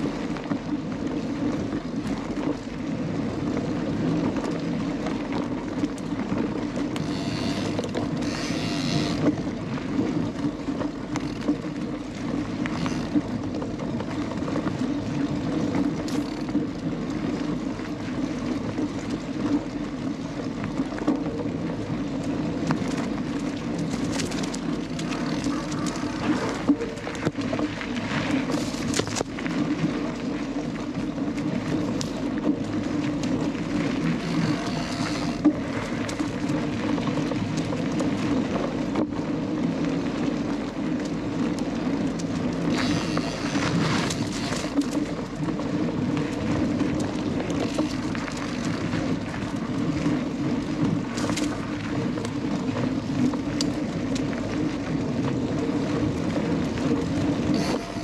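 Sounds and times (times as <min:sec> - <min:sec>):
bike clicks and rattles: 0:00.0 - 0:58.0
bike tyres rolling on dirt: 0:00.0 - 0:58.0
wind on microphone: 0:00.0 - 0:58.0.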